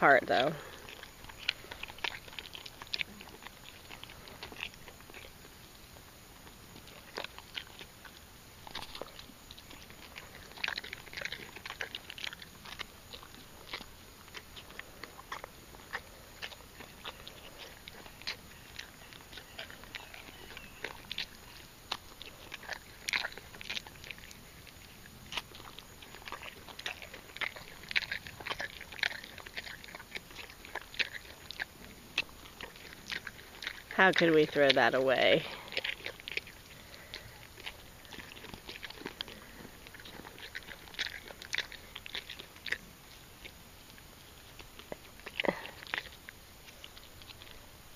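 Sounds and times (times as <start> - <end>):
horse chewing banana peel: 0.0 - 47.9.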